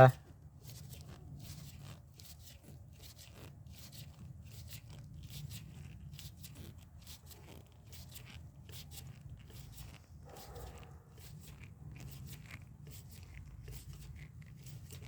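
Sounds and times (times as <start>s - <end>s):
tool scrapes and ticks: 0.0s - 15.0s.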